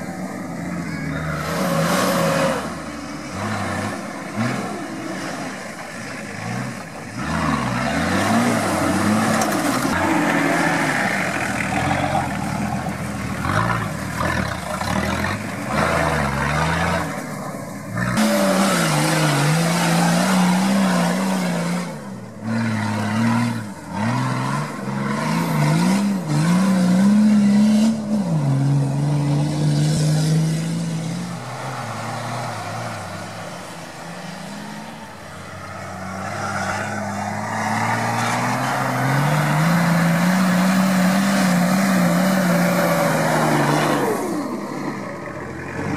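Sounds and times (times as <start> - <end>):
off-road engines revving: 0.0 - 45.9.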